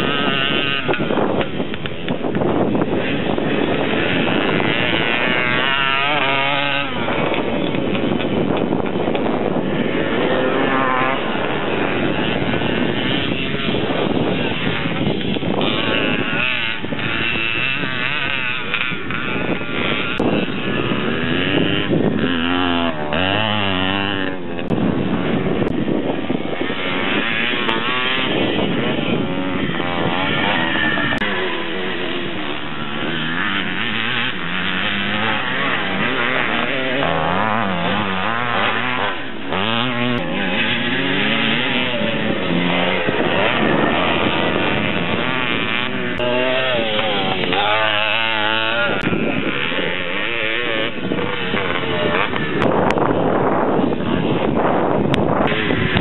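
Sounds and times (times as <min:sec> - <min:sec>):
motocross motorcycles revving past: 0:00.0 - 0:56.0.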